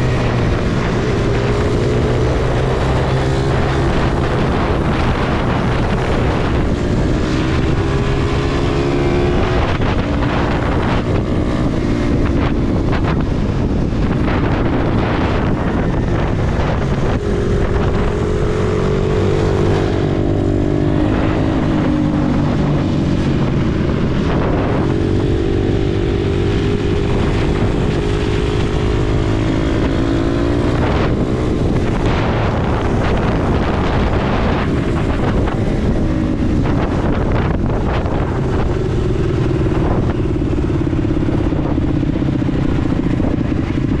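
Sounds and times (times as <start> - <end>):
motorbike engine revving: 0.0 - 44.0
wind buffeting microphone: 0.0 - 44.0.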